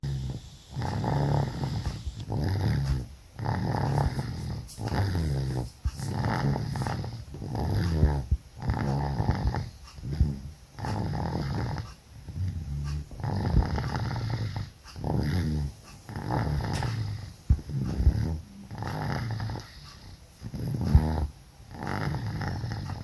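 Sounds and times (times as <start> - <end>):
loud rattling snoring: 0.0 - 23.0.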